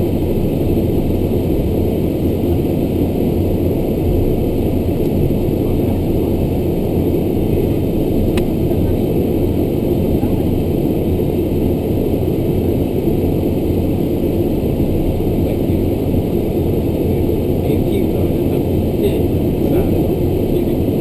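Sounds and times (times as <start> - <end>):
low steady hum: 0.0 - 21.0
turboprop engines running: 0.0 - 21.0.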